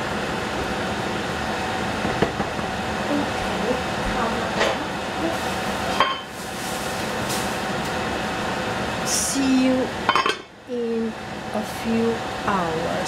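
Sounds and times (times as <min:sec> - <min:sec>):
kitchen hum: 0:00.0 - 0:13.0.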